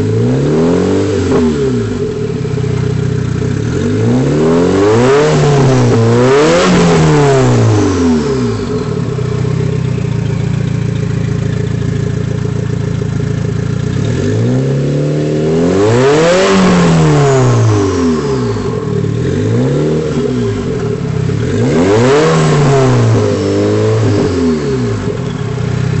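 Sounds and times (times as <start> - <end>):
car engine revving and idling: 0.0 - 26.0.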